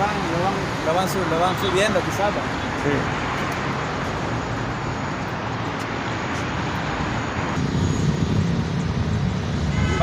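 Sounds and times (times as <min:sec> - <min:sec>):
road traffic roar: 0:00.0 - 0:10.0.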